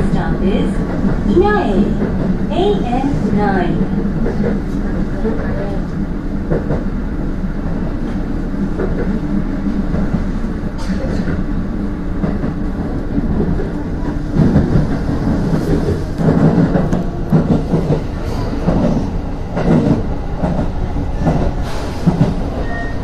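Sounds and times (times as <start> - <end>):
train clatter: 0.0 - 7.0, 8.0 - 23.0
train wheels rumbling on rails: 0.0 - 23.0.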